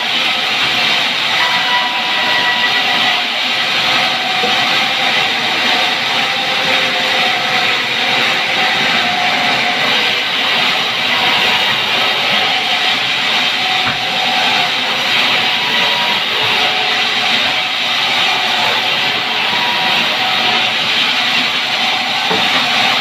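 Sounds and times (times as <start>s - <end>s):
band saw sawing logs: 0.0s - 23.0s.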